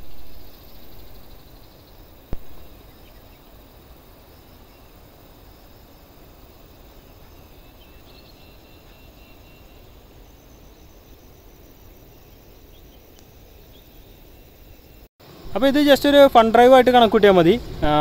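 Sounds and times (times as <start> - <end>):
high insect trills: 0.0 - 18.0.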